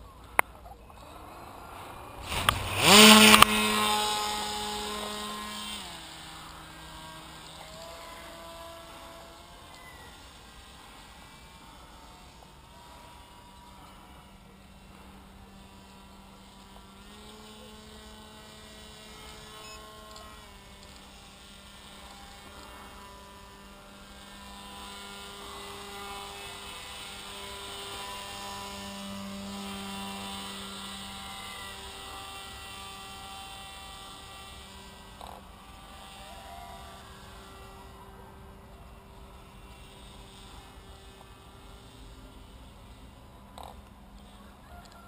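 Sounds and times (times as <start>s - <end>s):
electric motor and propeller buzzing: 0.0s - 45.0s.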